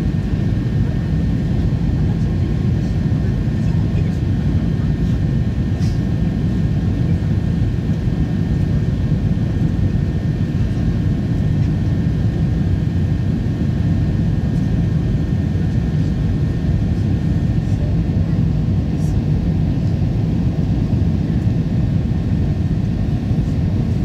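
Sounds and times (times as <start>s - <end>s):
jet cabin engine rumble: 0.0s - 24.0s.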